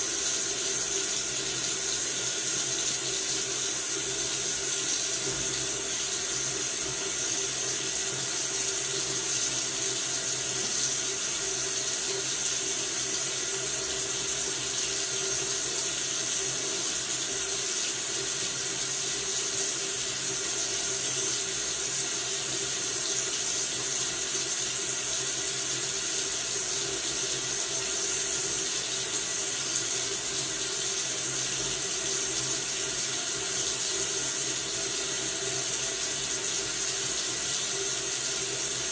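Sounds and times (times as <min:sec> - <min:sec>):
tap water running into sink: 0:00.0 - 0:38.9.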